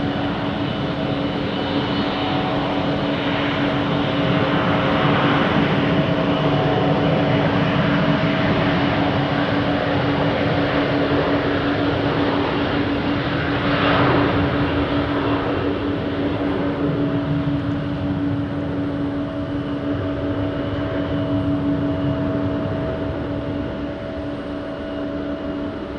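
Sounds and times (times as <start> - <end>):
airliner jet engines running: 0.0 - 25.9.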